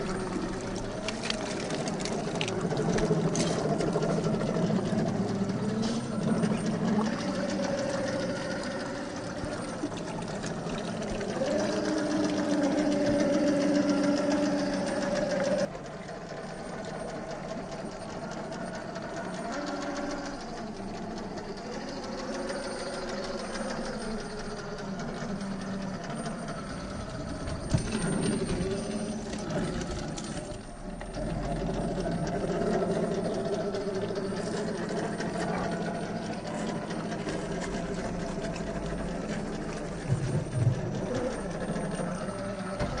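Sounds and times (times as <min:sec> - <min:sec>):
electric motor and drivetrain whining: 0:00.0 - 0:43.0.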